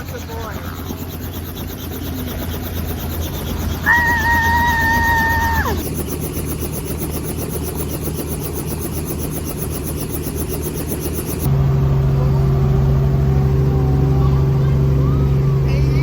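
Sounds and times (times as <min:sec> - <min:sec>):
helicopter rotor pulsing: 0:00.0 - 0:16.0.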